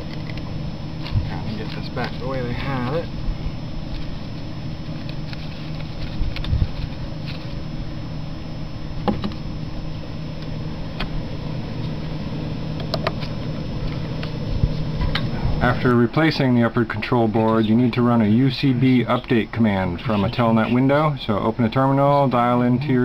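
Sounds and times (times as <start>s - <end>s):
engine-like hum: 0.0s - 23.0s.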